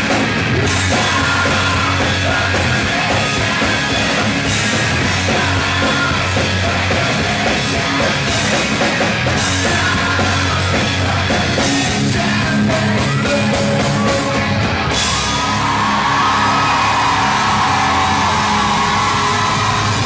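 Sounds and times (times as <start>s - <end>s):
pop-punk band playing live: 0.0s - 20.0s.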